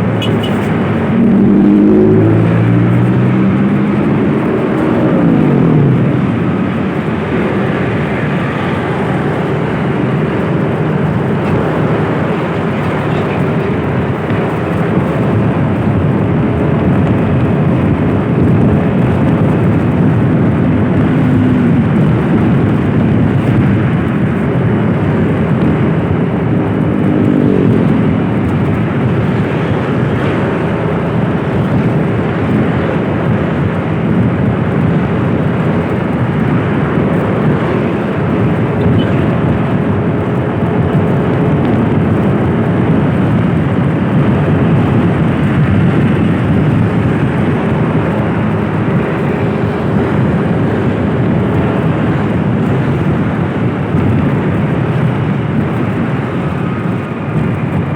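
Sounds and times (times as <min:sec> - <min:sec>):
road noise: 0:00.0 - 0:57.9
vehicle engine: 0:00.0 - 0:57.9.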